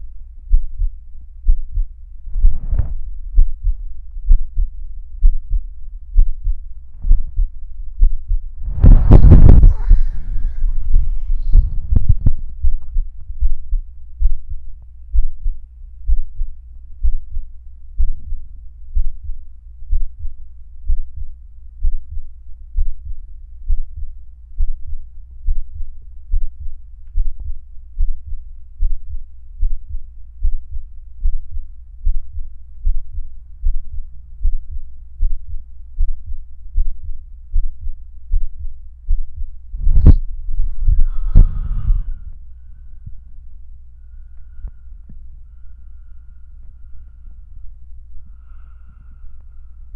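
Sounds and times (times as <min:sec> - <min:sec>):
heartbeat thumps: 0:00.5 - 0:17.4, 0:18.0 - 0:42.4.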